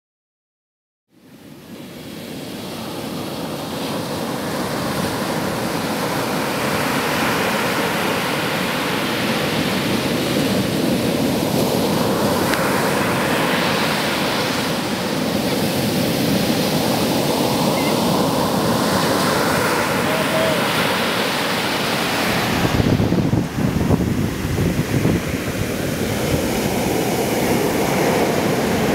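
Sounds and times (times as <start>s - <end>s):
surf washing over sand: 1.2s - 28.9s.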